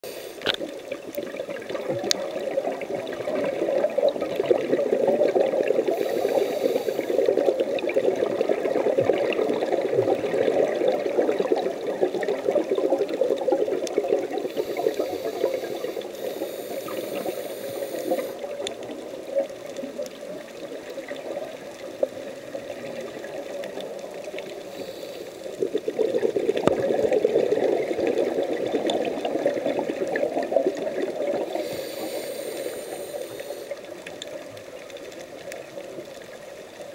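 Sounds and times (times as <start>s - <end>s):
underwater regulator bubbles: 0.0s - 36.2s.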